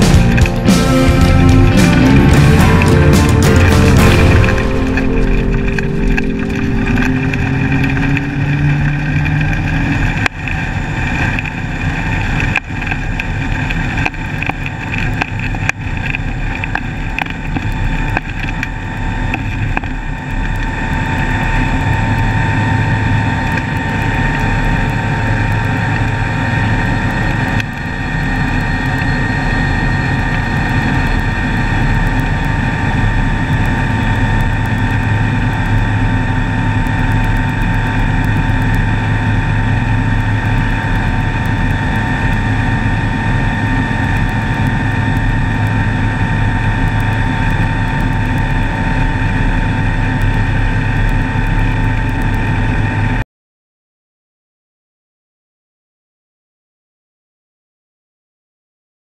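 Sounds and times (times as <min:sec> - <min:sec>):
aircraft engine and propeller: 0:00.0 - 0:53.2.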